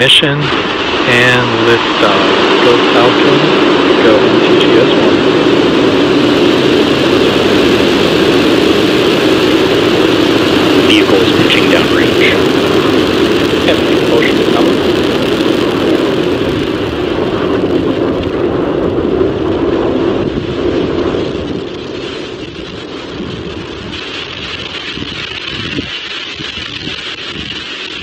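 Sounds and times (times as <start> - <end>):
rocket engine roar: 0.0 - 28.0.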